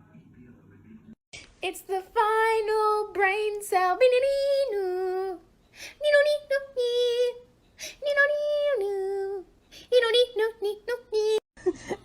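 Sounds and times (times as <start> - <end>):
high voice singing wordless tune: 1.4 - 11.4.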